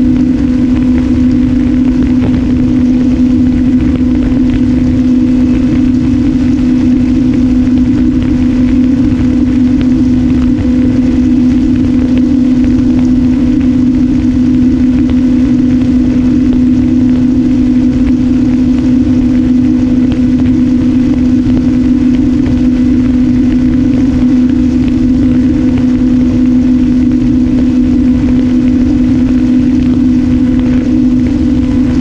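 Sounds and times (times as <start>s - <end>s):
electric motor and propeller hum: 0.0s - 32.0s
wind rushing over microphone: 0.0s - 32.0s.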